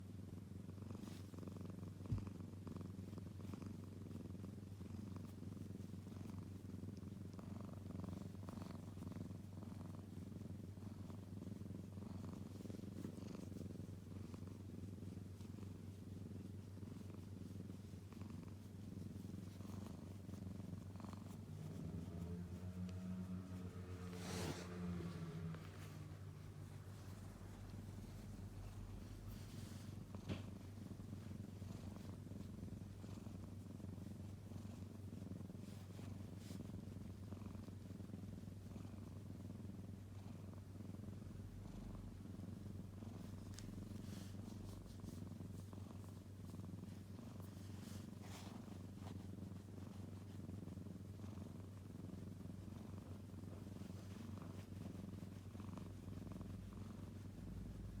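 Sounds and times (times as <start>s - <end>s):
kitten purring: 0.0s - 58.0s
faint clicks and rustles: 0.9s - 58.0s.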